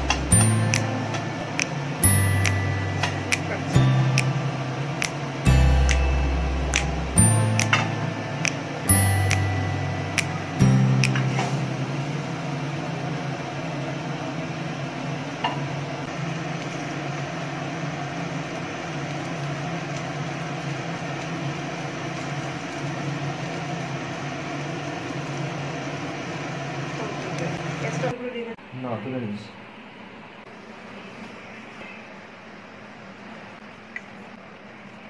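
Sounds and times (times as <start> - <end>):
steady low hum: 0.0 - 28.2.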